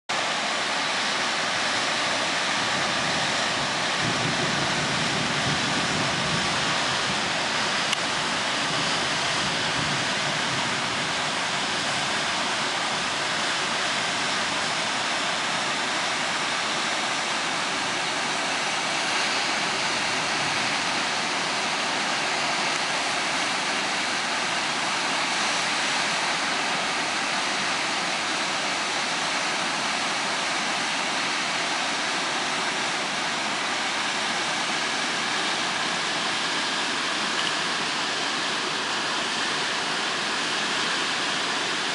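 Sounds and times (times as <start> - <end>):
stream rushing over rocks: 0.1 - 41.9.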